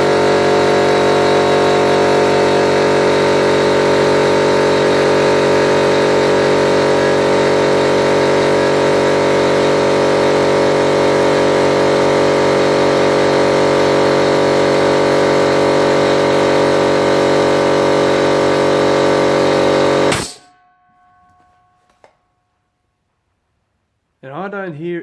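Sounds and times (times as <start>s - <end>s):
air compressor droning: 0.0s - 22.0s.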